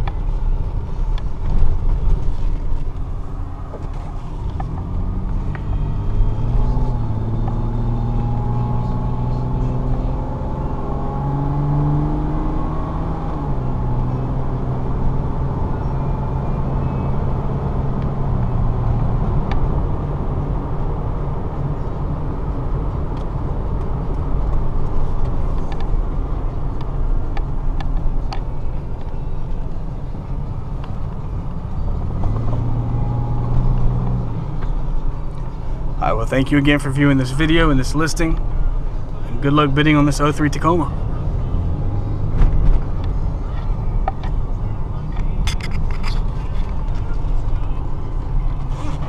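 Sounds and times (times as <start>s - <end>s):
car engine hum: 0.0s - 49.0s
tyre and road noise: 0.0s - 49.0s.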